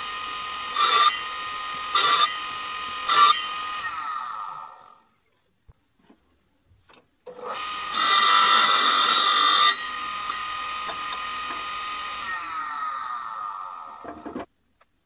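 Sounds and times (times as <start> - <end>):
table saw cutting wood: 0.0 - 5.1, 7.3 - 14.5.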